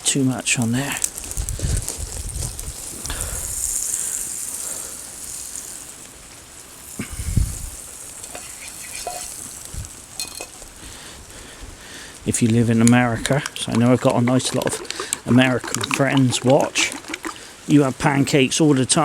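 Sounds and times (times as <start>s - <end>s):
batter sizzling in a hot pan: 0.5s - 18.5s.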